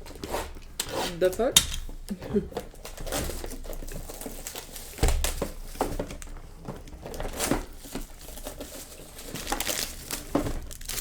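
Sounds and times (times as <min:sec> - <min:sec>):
plastic crinkling and rustling: 0:00.0 - 0:11.0.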